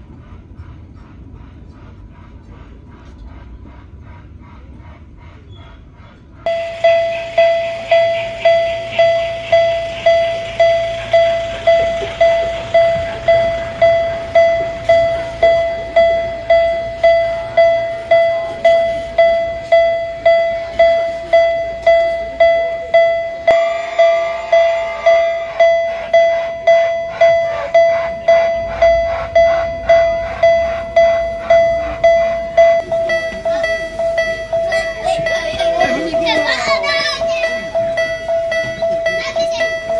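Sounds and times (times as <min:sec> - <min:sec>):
crossing signal ringing: 0:06.5 - 0:39.9
fast rhythmic sound: 0:06.5 - 0:39.9.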